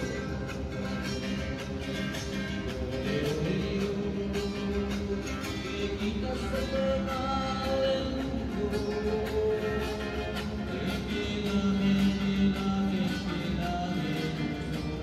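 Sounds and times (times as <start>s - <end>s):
acoustic guitars strummed and plucked: 0.0s - 15.0s.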